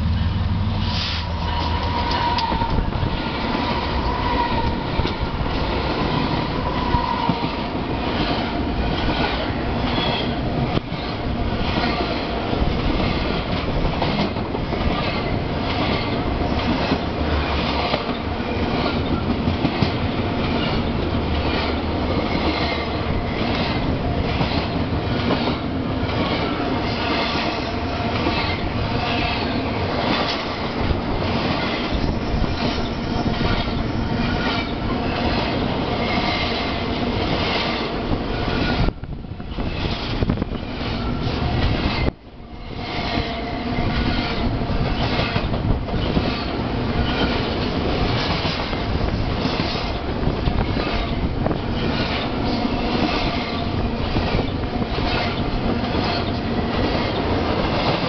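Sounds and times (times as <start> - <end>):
train wheels rumbling and clacking: 0.0 - 58.0.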